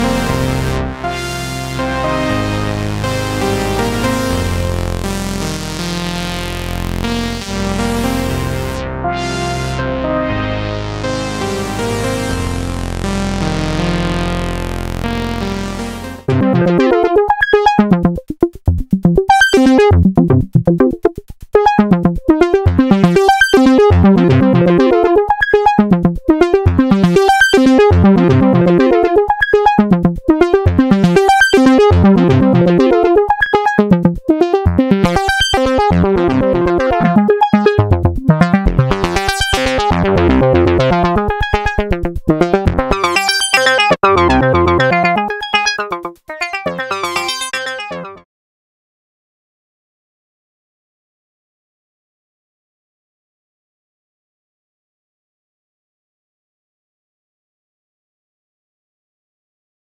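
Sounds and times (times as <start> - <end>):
synthesizer playing repeating notes: 0.0 - 48.2.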